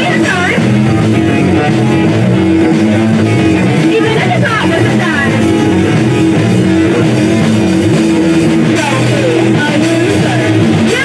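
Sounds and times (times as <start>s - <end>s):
electric guitar: 0.0s - 11.0s
rock band playing: 0.0s - 11.0s.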